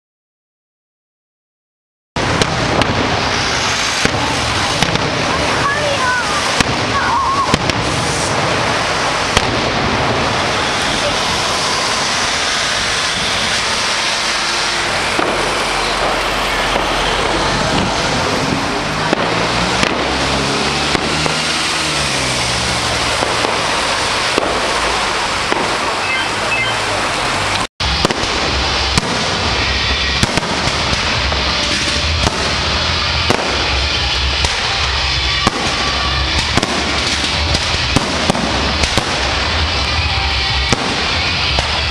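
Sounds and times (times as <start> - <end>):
fireworks bangs: 2.2 - 41.9
fireworks crackling: 2.2 - 41.9.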